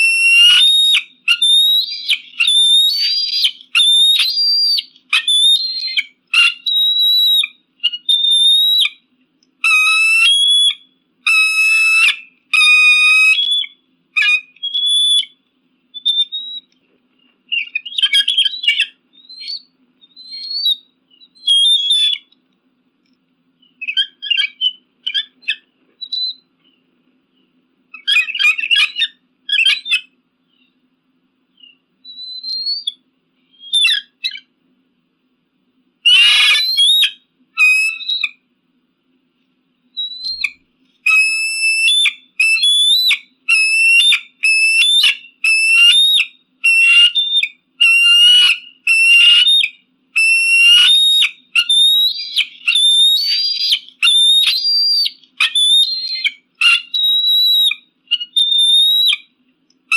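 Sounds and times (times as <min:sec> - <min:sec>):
eagle calling: 0:00.0 - 0:09.0, 0:09.6 - 0:15.4, 0:16.0 - 0:16.8, 0:17.5 - 0:22.4, 0:23.6 - 0:26.5, 0:27.9 - 0:30.7, 0:31.6 - 0:34.5, 0:36.0 - 0:38.4, 0:40.0 - 0:59.9.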